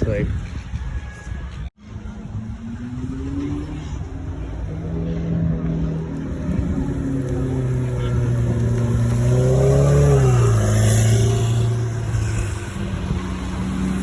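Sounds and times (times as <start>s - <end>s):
car engine revving: 2.5s - 14.0s.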